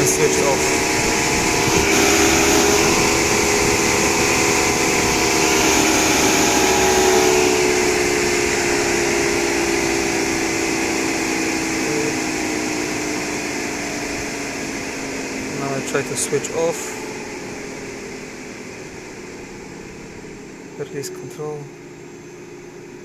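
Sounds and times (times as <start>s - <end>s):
electric cooling fan whine: 0.0s - 23.0s.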